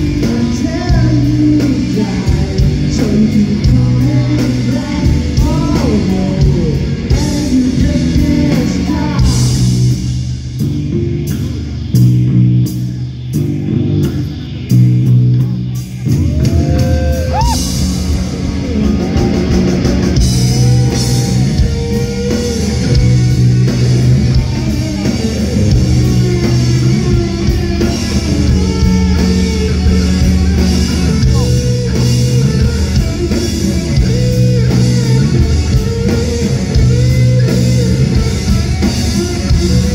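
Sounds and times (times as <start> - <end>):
drums and bass: 0.0 - 39.9
electric guitar bending notes: 0.0 - 39.9.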